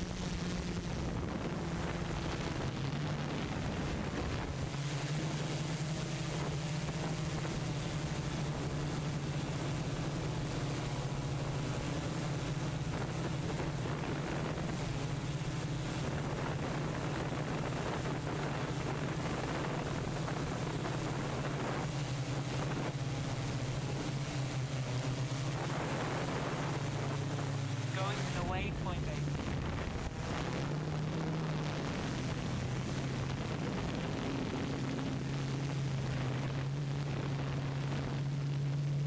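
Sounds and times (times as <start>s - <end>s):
drone propellers humming: 0.0s - 39.0s
wind noise on microphone: 0.0s - 39.0s.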